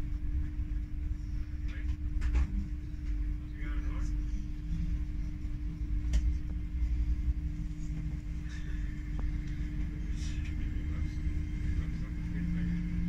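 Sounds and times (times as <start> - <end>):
train carriage rumble and hum: 0.0 - 13.0.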